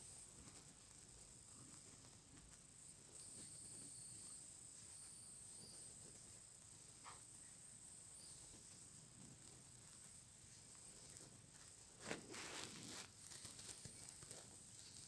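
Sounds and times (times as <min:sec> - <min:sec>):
soft rustle: 0:00.0 - 0:15.0
steady high hiss: 0:00.0 - 0:15.0.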